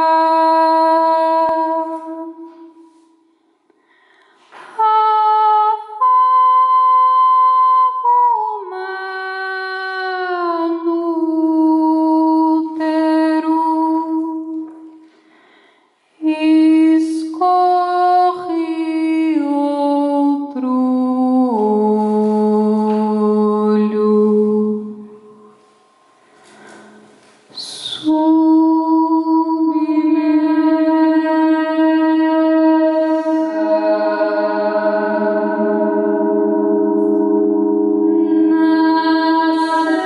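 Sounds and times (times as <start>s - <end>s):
woman singing wordless held tones: 0.0s - 3.0s, 4.7s - 15.0s, 16.2s - 25.6s, 27.6s - 40.0s.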